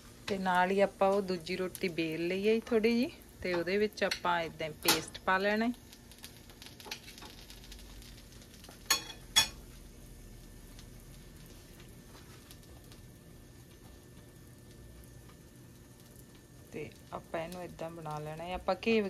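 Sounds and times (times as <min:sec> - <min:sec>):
bread sizzling in fat: 0:00.0 - 0:19.0.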